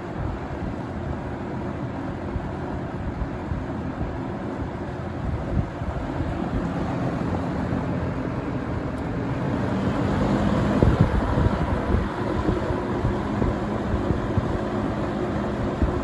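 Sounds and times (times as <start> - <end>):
fan air rushing: 0.0 - 16.0
low motor hum: 0.0 - 16.0.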